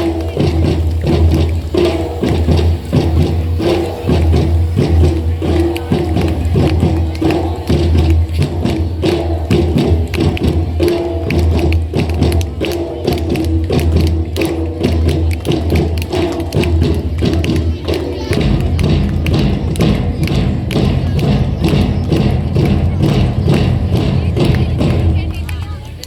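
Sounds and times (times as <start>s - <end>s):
drum ensemble playing: 0.0s - 26.0s.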